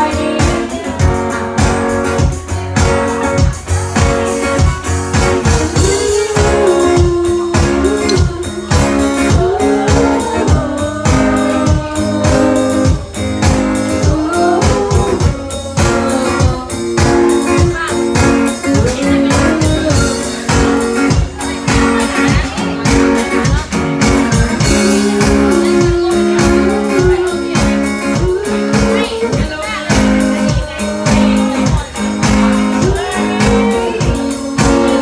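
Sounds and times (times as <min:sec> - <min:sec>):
band music with guitars: 0:00.0 - 0:35.0.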